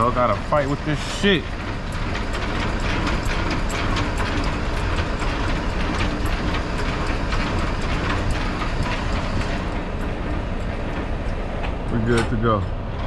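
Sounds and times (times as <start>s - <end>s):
diesel truck engine rumbling: 0.0s - 13.0s
rattling clicks: 1.0s - 13.0s.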